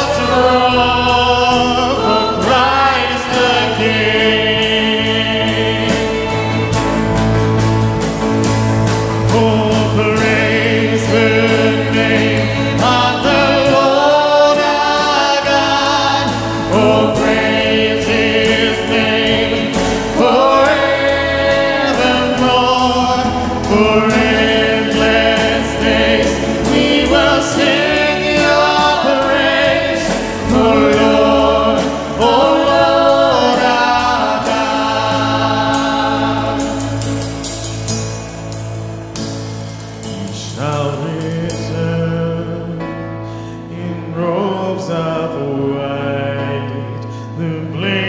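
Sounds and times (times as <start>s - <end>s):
acoustic guitar: 0.0s - 48.0s
keyboard: 0.0s - 48.0s
worship band singing: 0.0s - 48.0s.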